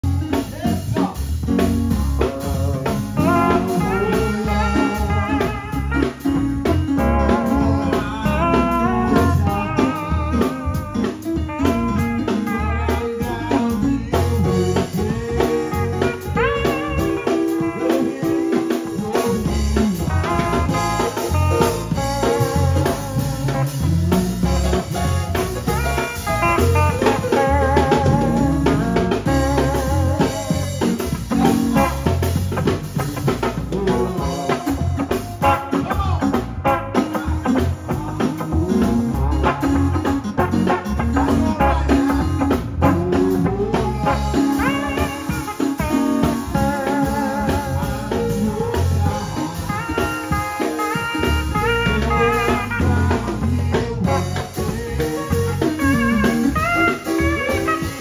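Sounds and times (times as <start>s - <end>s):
live band playing bluesy groove: 0.0s - 58.0s.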